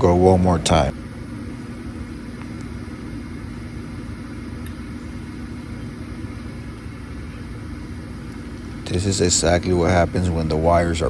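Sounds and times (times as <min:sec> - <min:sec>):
furnace motor humming: 0:00.0 - 0:11.0.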